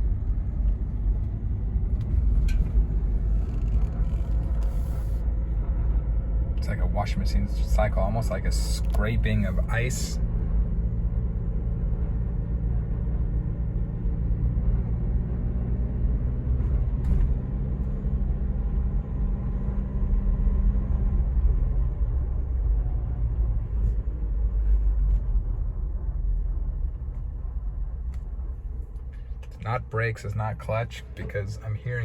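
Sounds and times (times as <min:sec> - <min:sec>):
car cabin rumble and drone: 0:00.0 - 0:32.0.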